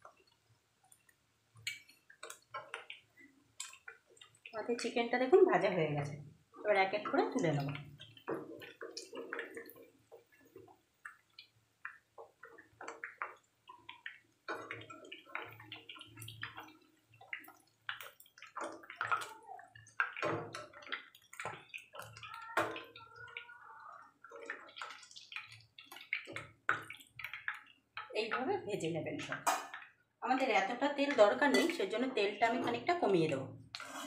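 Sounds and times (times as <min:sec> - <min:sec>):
hot oil sizzling and crackling: 0:00.0 - 0:34.0.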